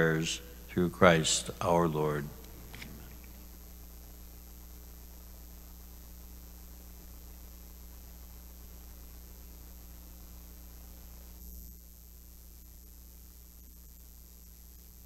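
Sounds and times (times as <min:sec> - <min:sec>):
faint hiss: 0:00.0 - 0:15.0
low electrical hum: 0:00.0 - 0:15.0.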